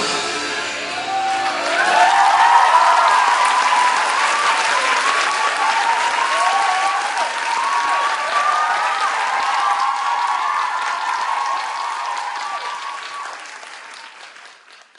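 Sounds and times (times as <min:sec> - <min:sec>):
audience applauding: 0:00.0 - 0:14.9
cheers and whoops: 0:00.8 - 0:14.0.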